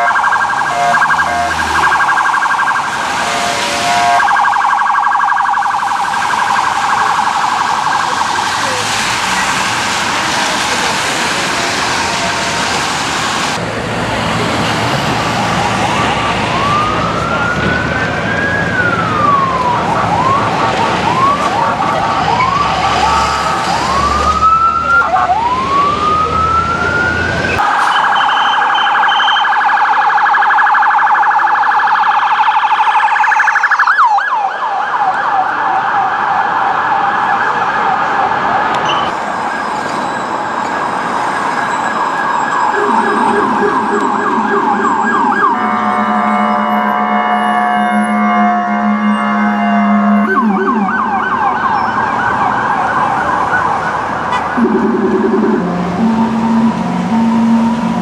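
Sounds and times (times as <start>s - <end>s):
siren warbling yelp: 0.0s - 10.9s, 15.4s - 39.7s, 41.6s - 58.0s
police siren wailing: 0.0s - 58.0s
traffic and engine noise: 0.0s - 58.0s.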